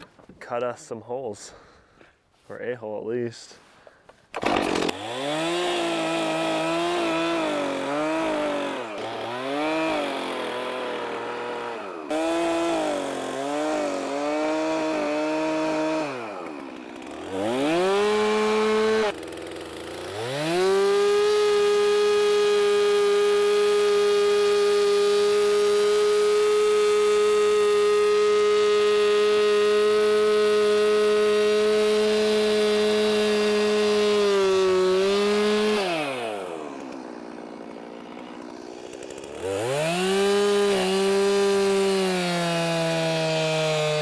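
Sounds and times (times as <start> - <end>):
chainsaw cutting through ice: 4.4 - 44.0.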